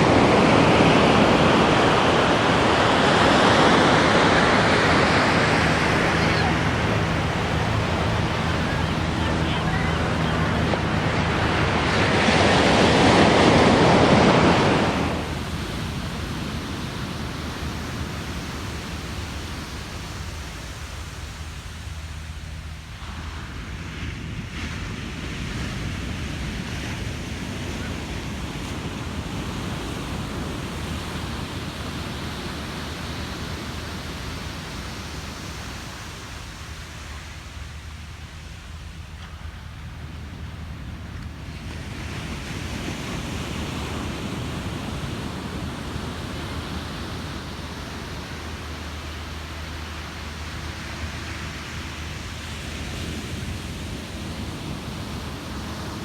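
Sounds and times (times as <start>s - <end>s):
surf washing on beach: 0.0s - 56.0s
wave crashing: 0.0s - 56.0s.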